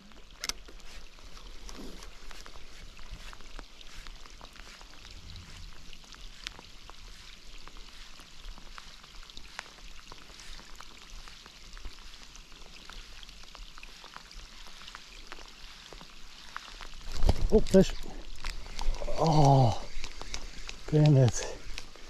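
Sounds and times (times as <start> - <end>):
rain falling on a lake: 0.0 - 22.0.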